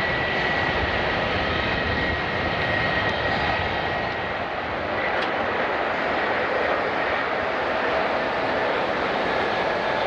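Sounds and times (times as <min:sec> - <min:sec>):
jet engines whining: 0:00.0 - 0:10.0.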